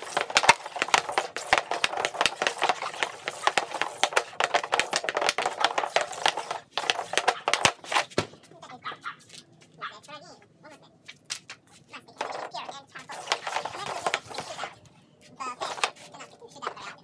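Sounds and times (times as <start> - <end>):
hockey stick tapping puck: 0.0 - 8.4, 11.1 - 14.8, 15.5 - 17.0.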